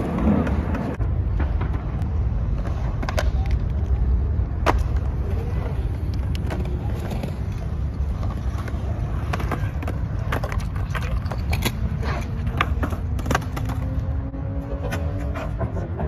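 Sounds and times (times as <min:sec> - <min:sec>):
skateboard clacks on concrete: 0:00.0 - 0:13.9
skateboards rolling on concrete: 0:00.0 - 0:16.0.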